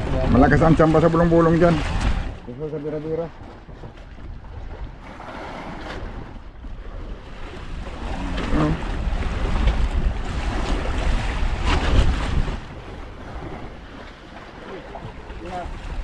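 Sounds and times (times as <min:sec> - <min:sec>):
sea washing around a boat: 0:00.0 - 0:16.0
wind buffeting the microphone: 0:00.0 - 0:16.0.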